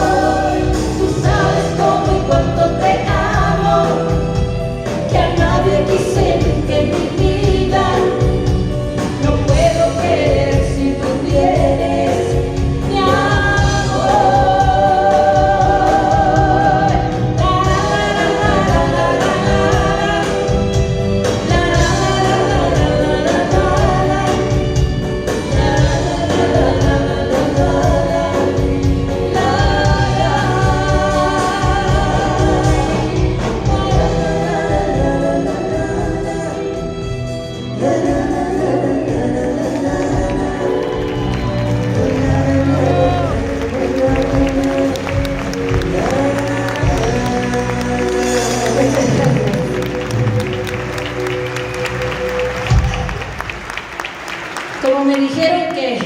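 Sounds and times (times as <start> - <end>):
person singing with vibrato: 0.0 - 53.4
live band playing: 0.0 - 56.0.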